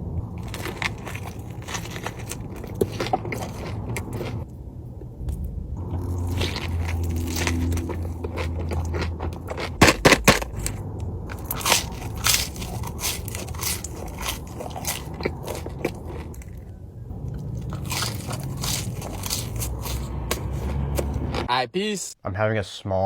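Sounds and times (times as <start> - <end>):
crunching and chewing crisp food: 0.2 - 21.5.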